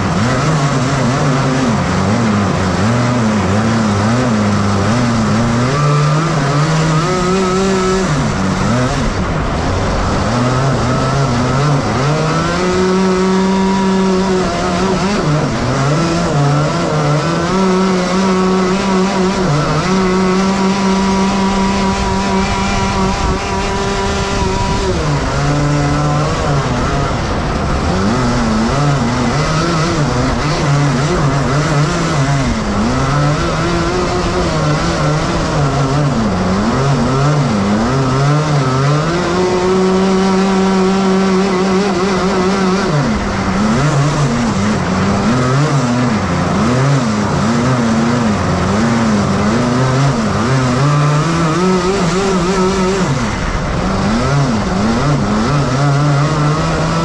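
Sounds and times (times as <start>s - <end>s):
kart engines revving: 0.0s - 57.0s.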